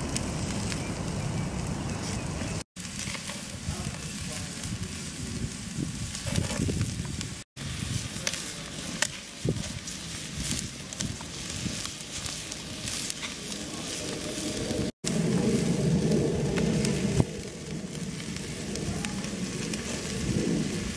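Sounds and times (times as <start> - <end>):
crackles and pops: 0.0 - 20.9
meat sizzling on grill: 0.0 - 20.9.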